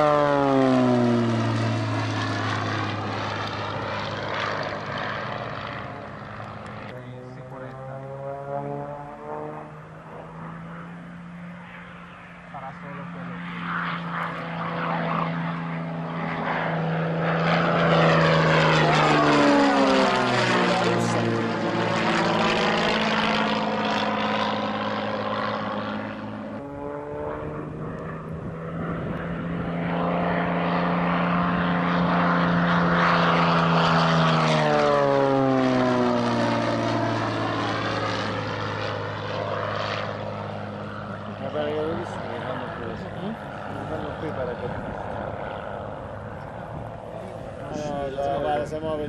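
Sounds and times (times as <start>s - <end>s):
propeller plane flying past: 0.0s - 49.0s.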